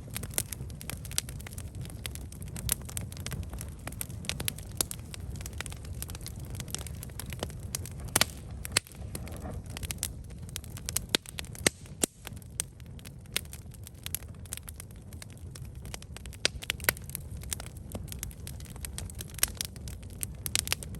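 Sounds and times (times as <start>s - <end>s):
campfire crackling and popping: 0.0s - 20.9s
low rumble of flames: 0.0s - 20.9s.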